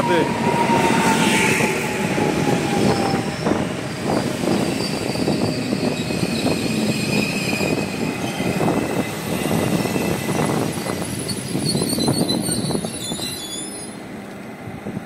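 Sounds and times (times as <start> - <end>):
high squeal: 0.1 - 8.7, 9.4 - 14.0.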